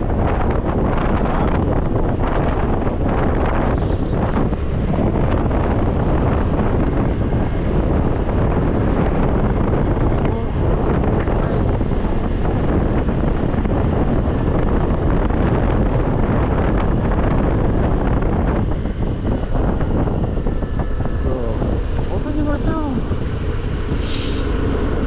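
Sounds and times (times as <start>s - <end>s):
scooter road noise: 0.0s - 25.0s
wind rushing over microphone: 0.0s - 25.0s.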